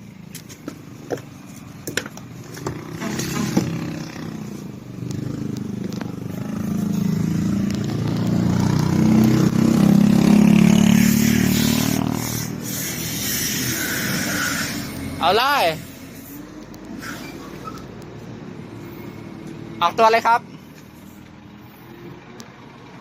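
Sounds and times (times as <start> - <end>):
diesel truck engine revving: 2.4 - 23.0.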